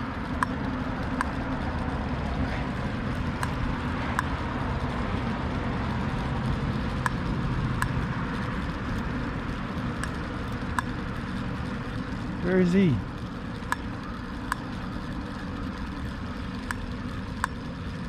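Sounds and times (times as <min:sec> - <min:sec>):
road traffic rumble: 0:00.0 - 0:18.0
sharp ticks: 0:00.0 - 0:18.0.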